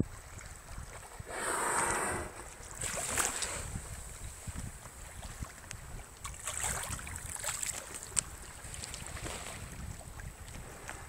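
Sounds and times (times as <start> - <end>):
waves lapping against kayak: 0.0 - 11.0
wind buffeting microphone: 0.0 - 11.0.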